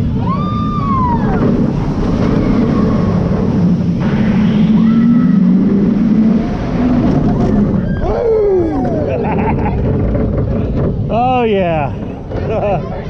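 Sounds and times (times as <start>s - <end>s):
wind rushing over microphone: 0.0s - 12.6s
roller coaster train rumbling on track: 0.0s - 13.0s.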